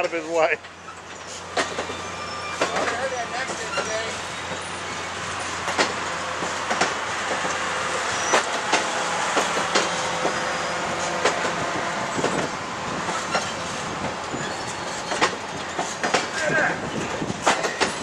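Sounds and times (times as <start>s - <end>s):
train wheels rolling on rails: 0.0s - 18.0s
wheels clicking over rail joints: 0.0s - 18.0s.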